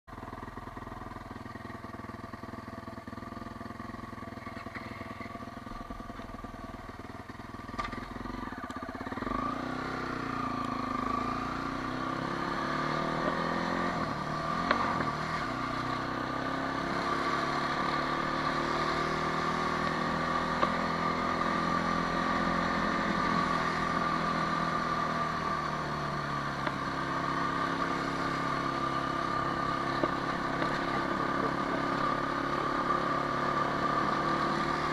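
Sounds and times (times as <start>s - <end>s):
quad bike engine: 0.1s - 34.9s.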